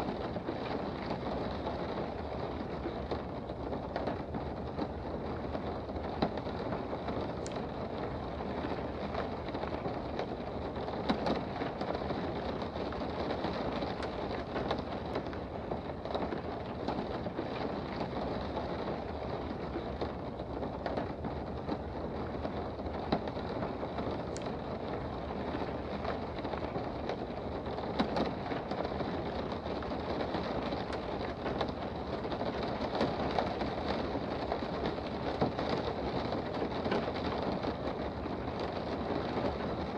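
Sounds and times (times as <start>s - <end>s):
raindrop ticks: 0.0s - 39.9s
steady rain patter: 0.0s - 39.9s.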